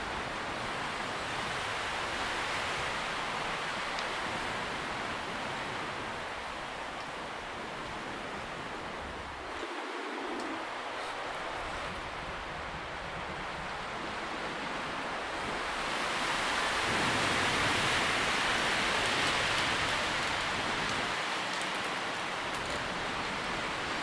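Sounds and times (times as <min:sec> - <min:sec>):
wind rustling tree leaves: 0:00.0 - 0:24.0.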